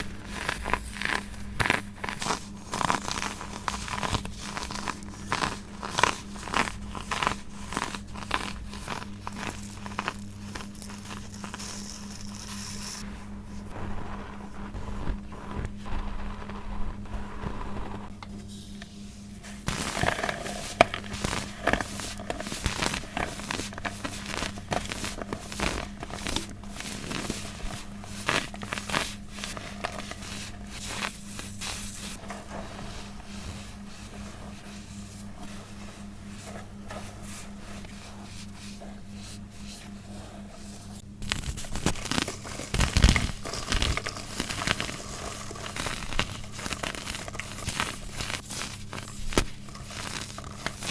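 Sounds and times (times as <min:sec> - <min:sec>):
baking soda crunching and crackling: 0:00.0 - 0:50.9.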